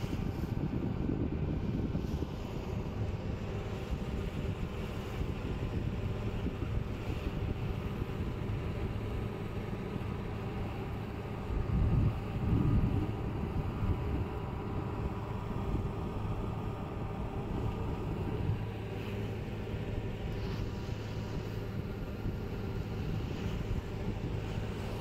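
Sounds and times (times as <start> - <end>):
boat engine droning: 0.0 - 25.0
wind on microphone: 0.0 - 25.0.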